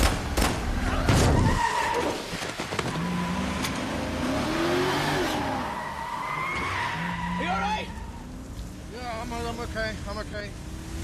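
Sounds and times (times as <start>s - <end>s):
tyres skidding and squealing: 0.2s - 11.0s.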